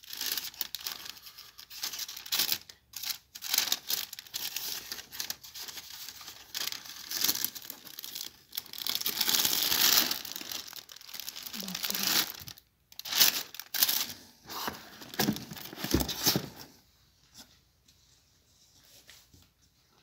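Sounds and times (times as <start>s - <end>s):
tissue paper and plastic crinkling: 0.0s - 16.8s.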